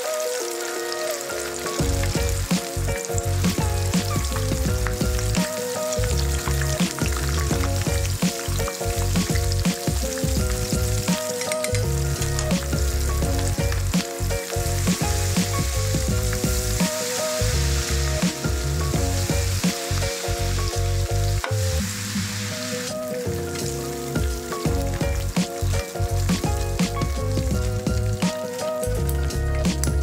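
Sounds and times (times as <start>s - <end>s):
background music: 0.0s - 30.0s
deep-frying crackling sizzle: 0.0s - 30.0s.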